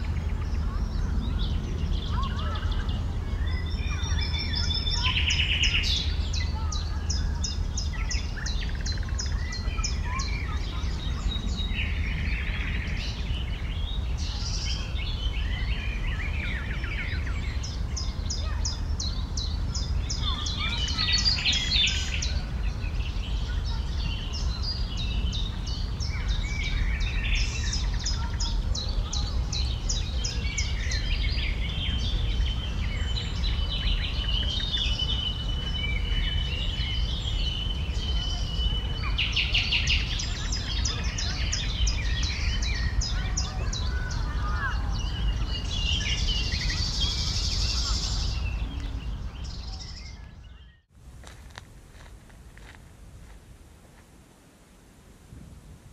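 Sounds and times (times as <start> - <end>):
songbirds singing: 0.0 - 52.8.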